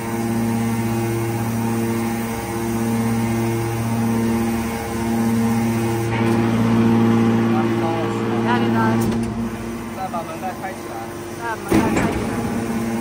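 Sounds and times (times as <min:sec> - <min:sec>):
hydraulic power pack humming: 0:00.0 - 0:13.0.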